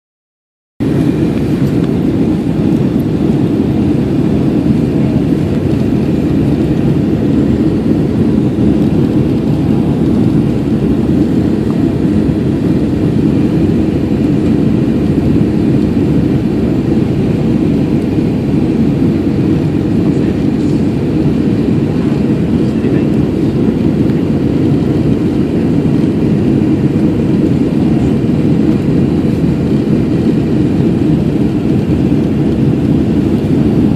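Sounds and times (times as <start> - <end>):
airliner cabin engine rumble: 0.8 - 33.9.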